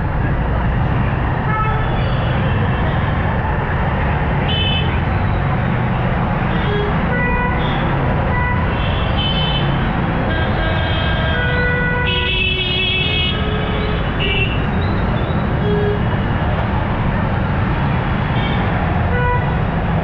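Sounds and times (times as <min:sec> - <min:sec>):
traffic on wet road: 0:00.0 - 0:20.0.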